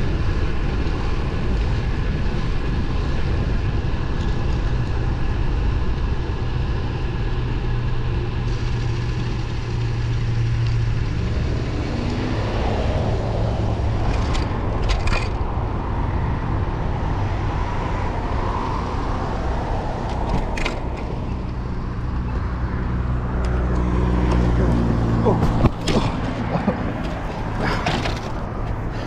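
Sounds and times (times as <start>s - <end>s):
traffic passing: 0.0s - 29.0s
wind and road noise: 0.0s - 29.0s.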